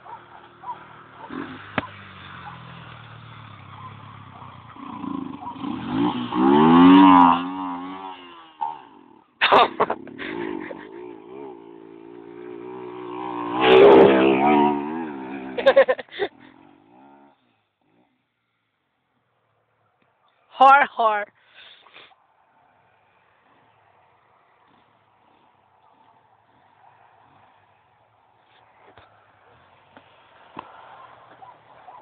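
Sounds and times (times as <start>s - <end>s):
motorcycle engines revving: 0.0s - 19.3s, 22.4s - 32.0s.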